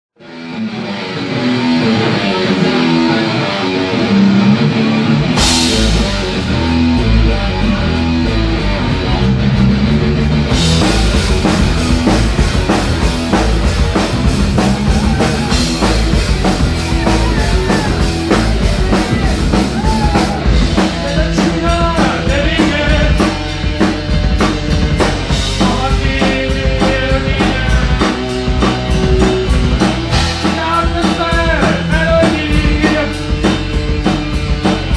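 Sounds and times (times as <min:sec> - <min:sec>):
rock band playing: 0:00.2 - 0:34.9.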